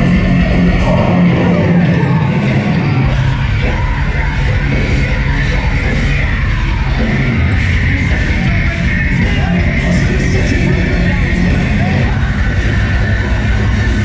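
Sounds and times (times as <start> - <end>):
heavy metal band playing: 0.0 - 14.0.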